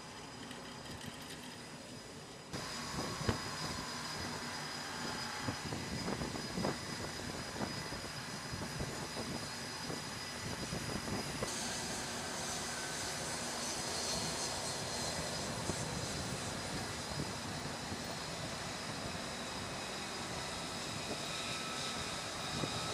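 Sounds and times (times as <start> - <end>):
jet engine noise: 0.0 - 22.9.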